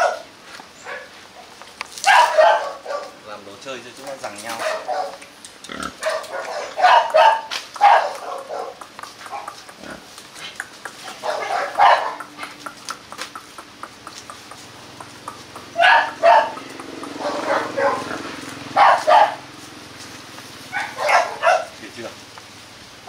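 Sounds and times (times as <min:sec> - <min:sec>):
puppies barking and yapping: 0:00.0 - 0:03.3, 0:04.0 - 0:21.9.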